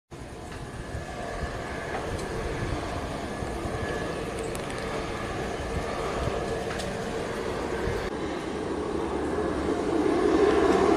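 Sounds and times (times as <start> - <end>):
distant airplane engines humming: 0.1 - 10.9.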